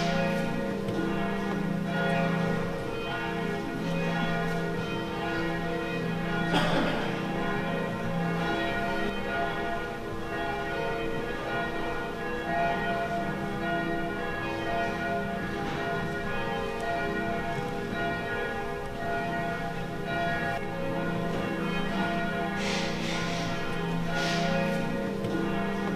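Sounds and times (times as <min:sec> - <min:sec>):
church bells pealing: 0:00.0 - 0:25.9.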